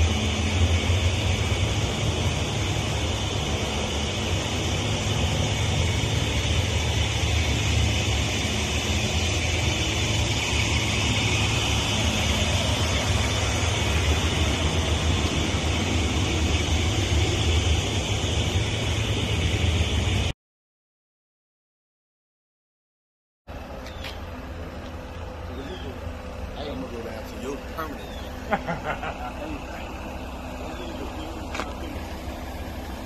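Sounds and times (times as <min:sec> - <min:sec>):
machinery running with rumble: 0:00.0 - 0:20.4, 0:23.5 - 0:33.0.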